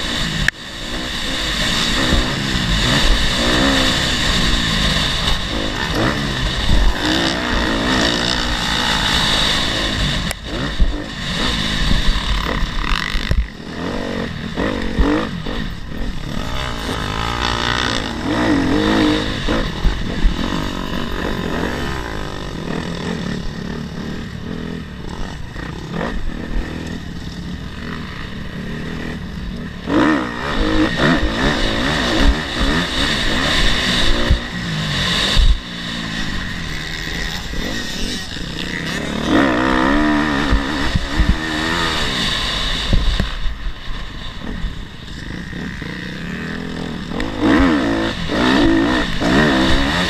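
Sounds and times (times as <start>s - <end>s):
wind rumble on microphone: 0.0s - 27.2s, 28.9s - 50.0s
dirt bike engine revving: 0.0s - 50.0s.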